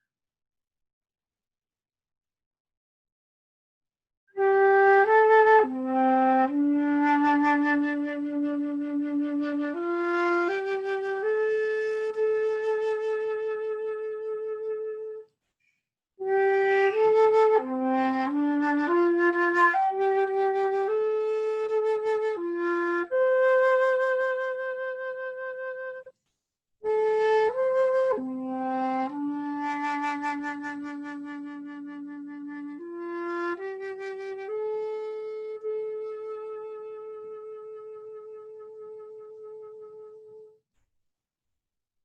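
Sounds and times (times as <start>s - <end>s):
solo flute melody: 4.3s - 15.3s, 16.2s - 26.1s, 26.8s - 40.6s.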